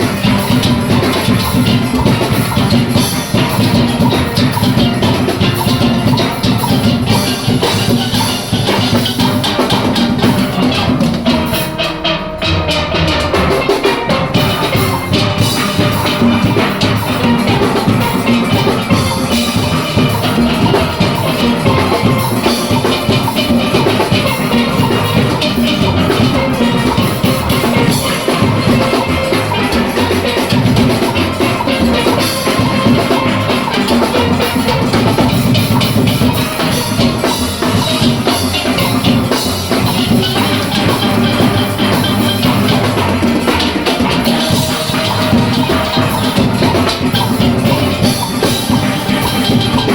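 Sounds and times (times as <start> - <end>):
drum kit and percussion rhythm: 0.0 - 49.9
steelpans playing melody: 0.0 - 49.9.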